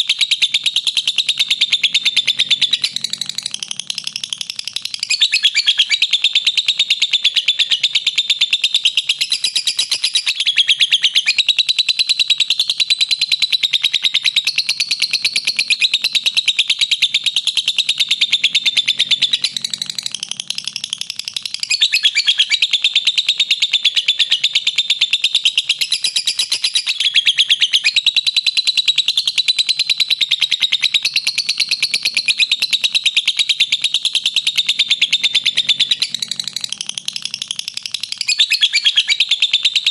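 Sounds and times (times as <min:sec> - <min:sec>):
lovebird shrill chattering song: 0:00.2 - 0:12.2, 0:12.8 - 0:39.9.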